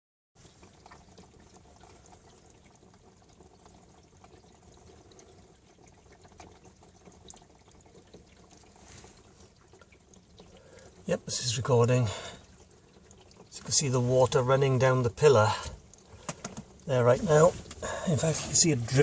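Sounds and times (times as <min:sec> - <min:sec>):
hose water running over car roof: 0:00.4 - 0:19.0.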